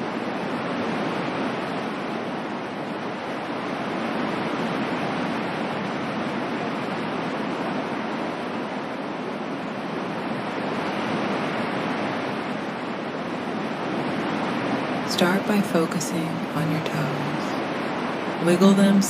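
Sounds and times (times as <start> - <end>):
ocean waves washing: 0.0 - 19.0.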